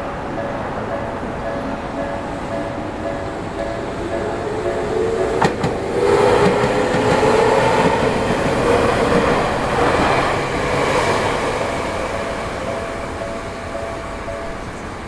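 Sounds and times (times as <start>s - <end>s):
train rumbling and clattering: 0.0s - 15.0s
crossing warning alarm: 0.1s - 15.0s.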